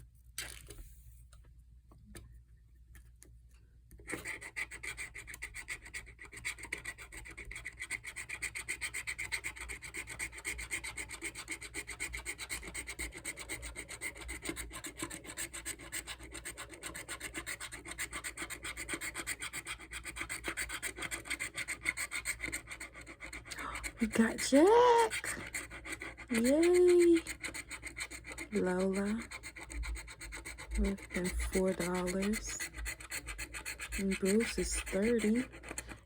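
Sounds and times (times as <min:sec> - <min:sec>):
scratching lottery ticket: 0:04.0 - 0:36.0.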